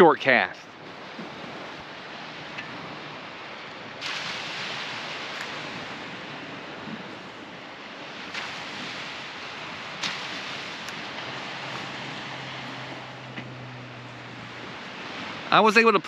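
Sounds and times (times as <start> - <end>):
surf: 0.0 - 16.0
wind: 0.0 - 16.0.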